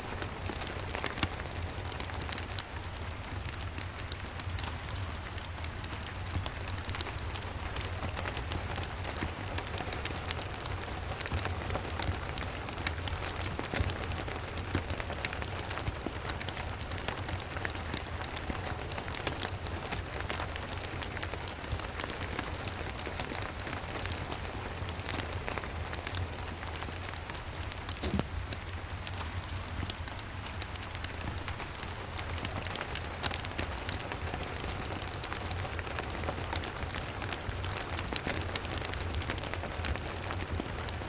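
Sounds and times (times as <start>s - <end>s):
steady rain hiss: 0.0s - 41.0s
wood fire crackling: 0.0s - 41.0s.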